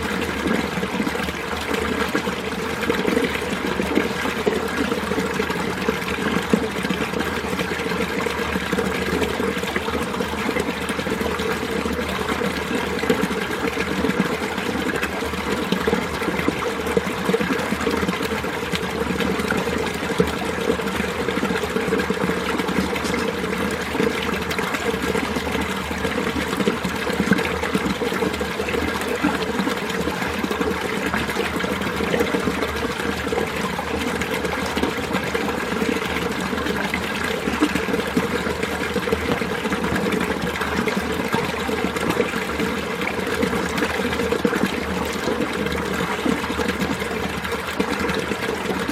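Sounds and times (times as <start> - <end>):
stream water gurgling: 0.0 - 48.9.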